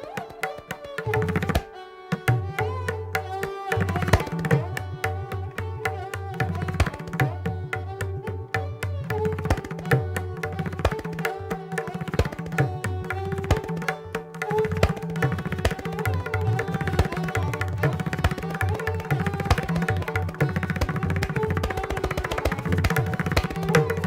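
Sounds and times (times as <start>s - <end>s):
tabla strokes: 0.0s - 24.0s.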